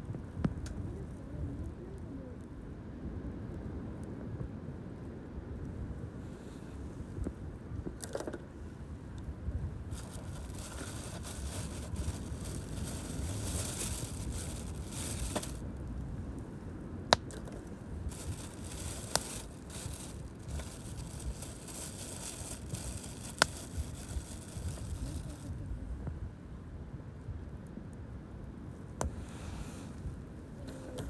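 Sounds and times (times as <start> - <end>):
campfire crackling and hissing: 0.0 - 31.0.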